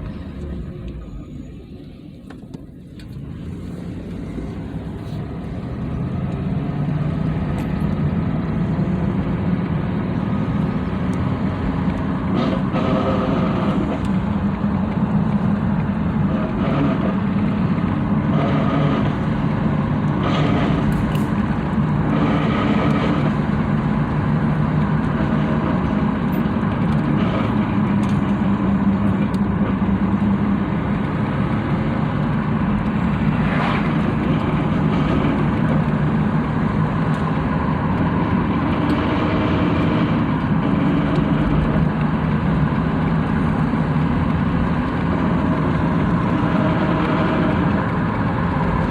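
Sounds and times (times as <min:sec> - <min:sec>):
noise from truck front end: 0:00.0 - 0:48.9
truck engine droning: 0:00.0 - 0:48.9.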